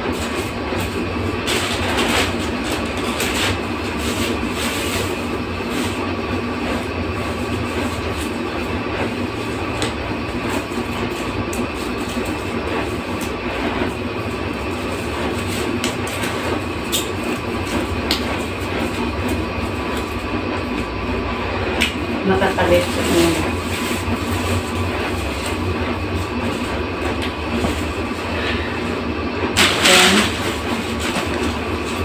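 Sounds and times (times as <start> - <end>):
mechanical rumble and hiss: 0.0 - 32.0.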